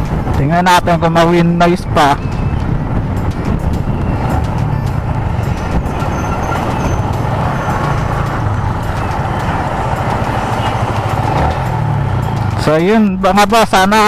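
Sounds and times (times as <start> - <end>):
motorcycle engine drone: 0.0 - 14.0
rushing air and road noise: 0.0 - 14.0.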